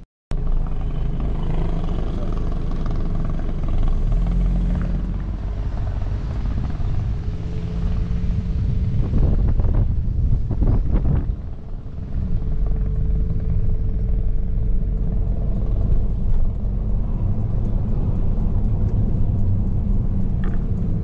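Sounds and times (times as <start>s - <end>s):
car engine and tyre noise: 0.3s - 21.0s.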